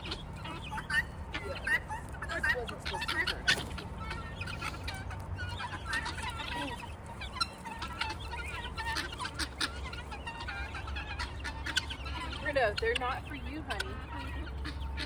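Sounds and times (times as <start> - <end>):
guinea fowl calling: 0.0 - 15.0.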